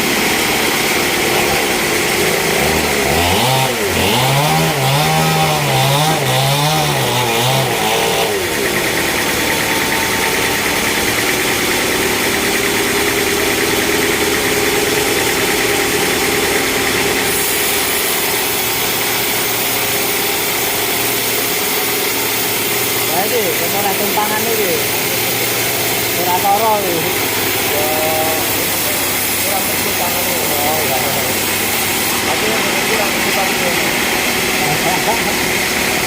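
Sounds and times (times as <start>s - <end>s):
chainsaw engine revving: 0.0s - 36.0s.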